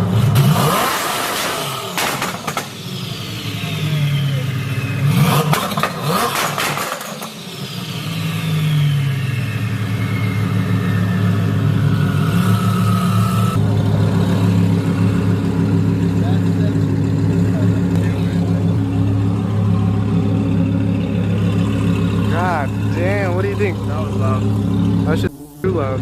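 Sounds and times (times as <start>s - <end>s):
exhaust crackles: 0.0s - 26.0s
sports car engine revving: 0.0s - 26.0s.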